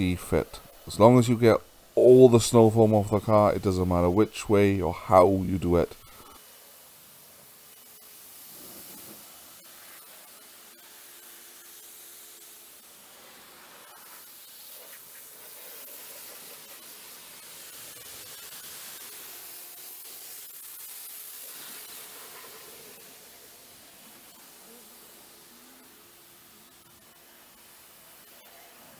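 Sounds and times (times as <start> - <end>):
pressure washer spraying water: 0.1 - 28.9.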